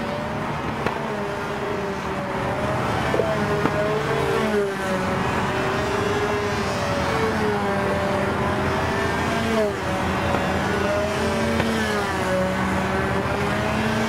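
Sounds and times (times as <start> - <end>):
model airplane engine buzzing: 0.0 - 14.0.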